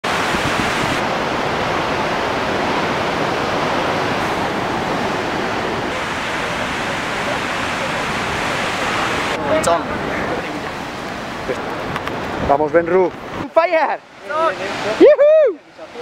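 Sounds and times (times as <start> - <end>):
surf breaking on rocks: 0.0 - 15.2.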